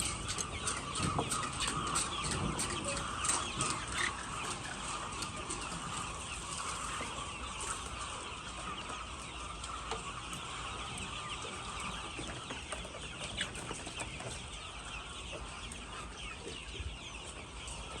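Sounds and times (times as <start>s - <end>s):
flock of chickens clucking: 0.0s - 18.0s.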